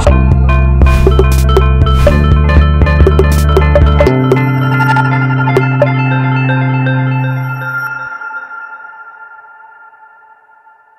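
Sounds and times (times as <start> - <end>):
ringing music notes: 1.0 - 10.8.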